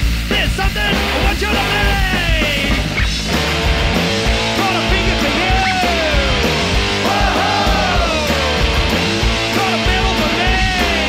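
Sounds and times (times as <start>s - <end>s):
punk rock from vinyl record: 0.0s - 11.0s.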